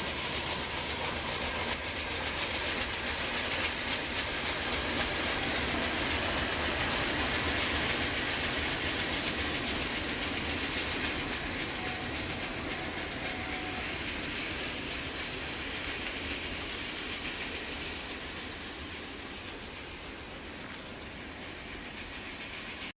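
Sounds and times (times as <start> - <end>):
freight train wheels rumbling on rails: 0.0 - 22.9.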